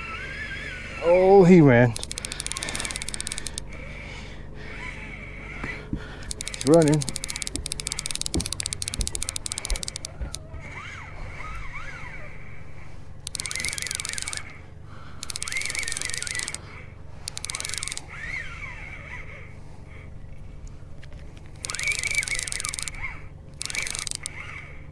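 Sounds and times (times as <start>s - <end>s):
reel cranking with gear whine: 0.0s - 20.0s, 21.4s - 24.9s
fishing reel drag clicking: 0.1s - 20.0s, 21.4s - 24.9s.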